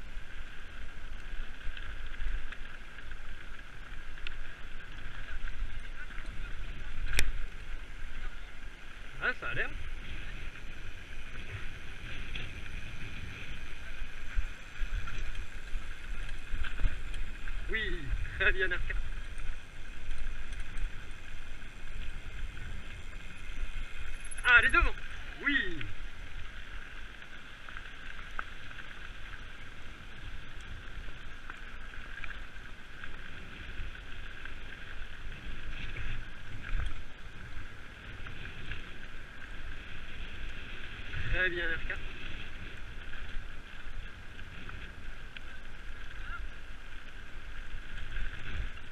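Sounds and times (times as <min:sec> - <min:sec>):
wind on microphone: 0:00.0 - 0:27.0, 0:27.9 - 0:48.9
low bumps from rough ground: 0:00.0 - 0:48.9
mountain bike rolling on dirt: 0:00.0 - 0:48.9.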